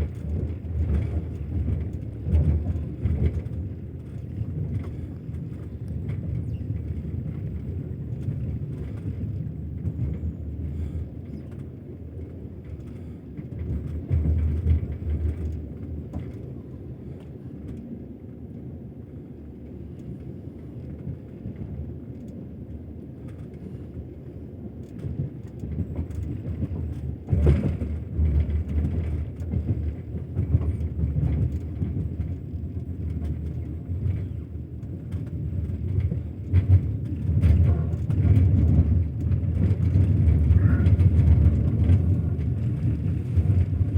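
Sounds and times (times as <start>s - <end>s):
train wheels clattering over track: 0.0s - 17.9s, 24.7s - 43.9s
train rumble: 0.0s - 43.9s.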